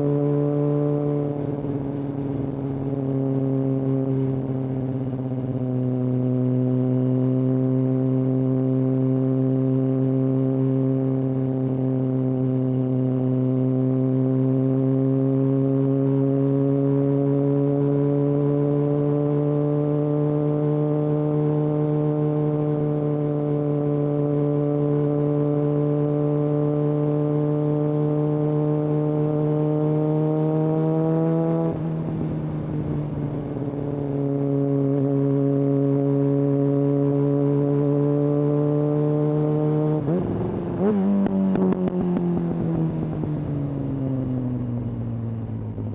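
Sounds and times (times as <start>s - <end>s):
motorcycle exhaust droning: 0.0s - 45.9s.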